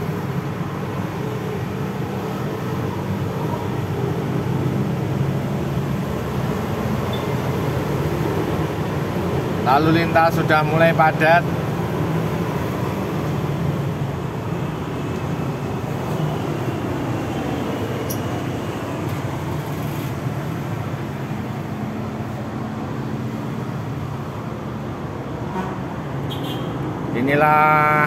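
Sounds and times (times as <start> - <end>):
road traffic noise: 0.0 - 28.0
vehicle engine hum: 0.0 - 28.0.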